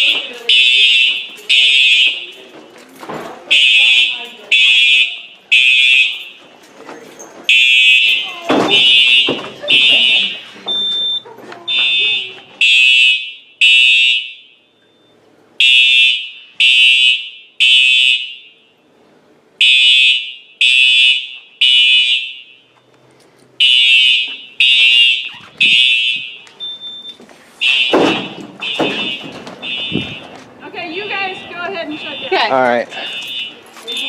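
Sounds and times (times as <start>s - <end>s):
fire alarm horn blasts: 0.0s - 2.3s, 3.5s - 6.4s, 7.5s - 14.9s, 15.6s - 18.9s, 19.6s - 22.8s, 23.6s - 34.0s.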